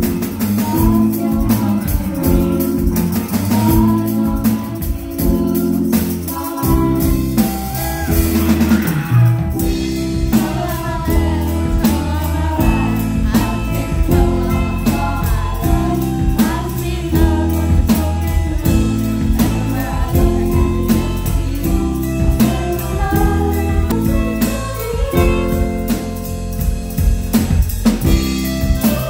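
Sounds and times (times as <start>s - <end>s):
bass guitar: 0.0s - 29.0s
drum kit with cymbals: 0.0s - 29.0s
electric guitars: 0.0s - 29.0s
keyboard: 0.0s - 29.0s.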